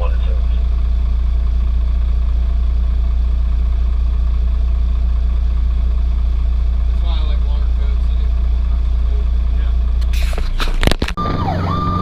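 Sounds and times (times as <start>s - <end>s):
fire engine engine droning: 0.0s - 12.0s.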